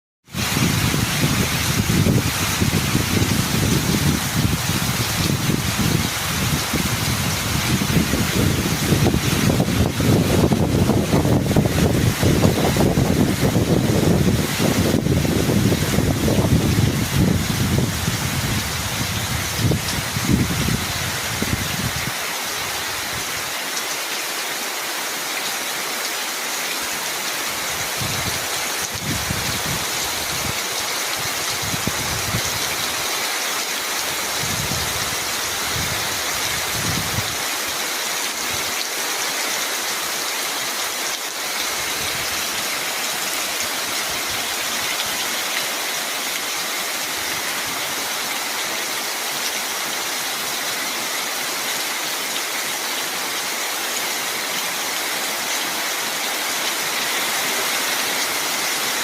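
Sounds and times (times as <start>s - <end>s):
steady rain falling: 0.2s - 59.0s.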